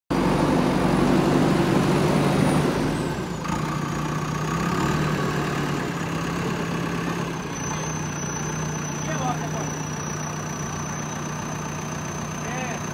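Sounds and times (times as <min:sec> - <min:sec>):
diesel engine running: 0:00.1 - 0:12.9.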